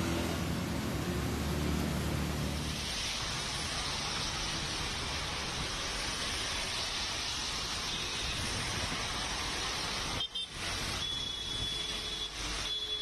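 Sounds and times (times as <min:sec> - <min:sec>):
cars and scooters passing: 0:00.0 - 0:12.7
rain hiss: 0:00.0 - 0:13.0
traffic on a wet road: 0:00.0 - 0:13.0.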